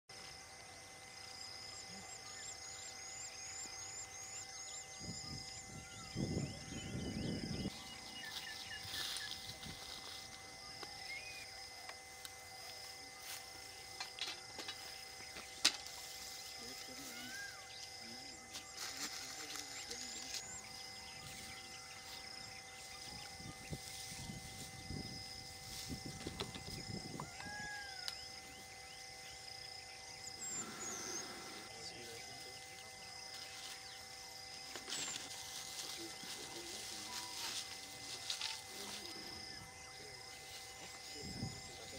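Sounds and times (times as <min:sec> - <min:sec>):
faint steady tones: 0:00.1 - 0:41.9
high insect chirring: 0:00.1 - 0:41.9.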